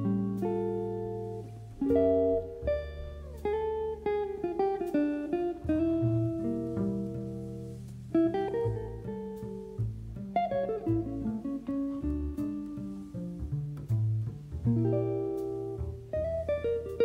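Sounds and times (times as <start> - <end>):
plucked acoustic guitar music: 0.0 - 17.0.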